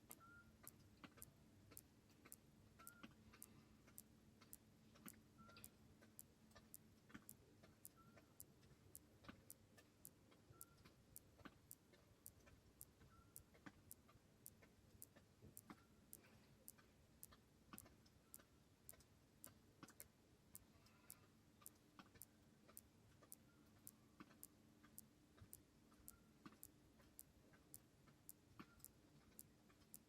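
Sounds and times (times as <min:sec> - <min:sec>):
faint even ticking: 0:00.0 - 0:30.0
faint irregular clicks: 0:00.0 - 0:30.0.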